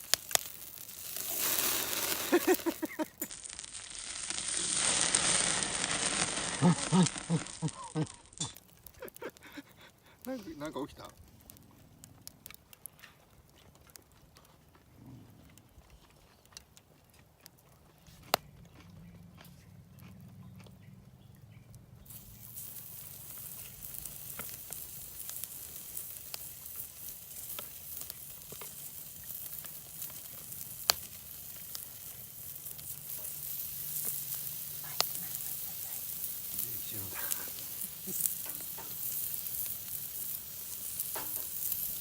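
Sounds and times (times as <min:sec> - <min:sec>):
food sizzling over charcoal: 0:00.0 - 0:14.8, 0:21.2 - 0:42.0
charcoal crackles and pops: 0:00.0 - 0:18.8, 0:19.4 - 0:42.0.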